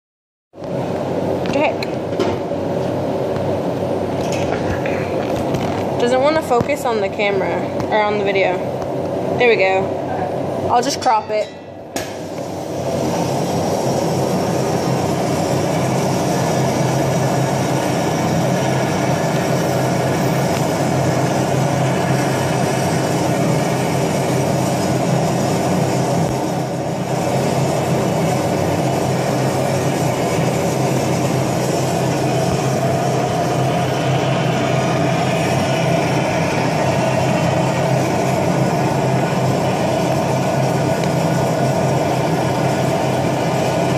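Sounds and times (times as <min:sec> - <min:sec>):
gas torch flame rushing: 0:00.6 - 0:11.0, 0:11.8 - 0:43.9.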